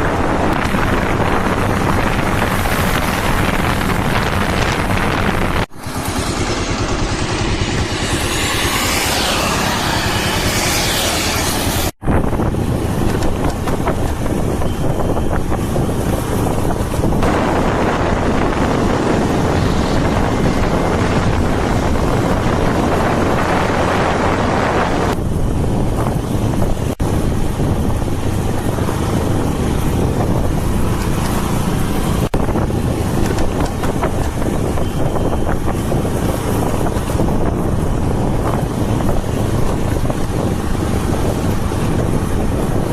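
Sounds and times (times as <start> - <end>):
heavy wind buffeting microphone: 0.0 - 42.9.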